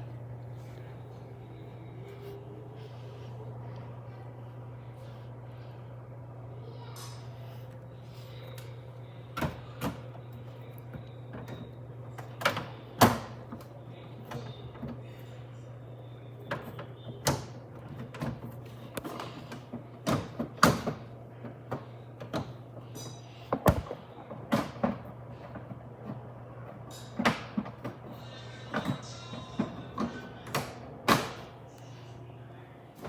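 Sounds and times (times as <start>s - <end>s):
air conditioner humming: 0.0s - 33.0s.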